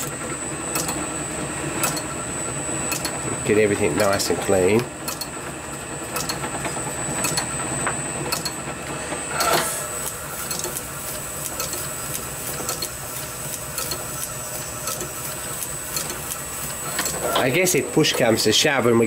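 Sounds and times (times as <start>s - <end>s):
lathe mechanical hum: 0.0s - 19.0s.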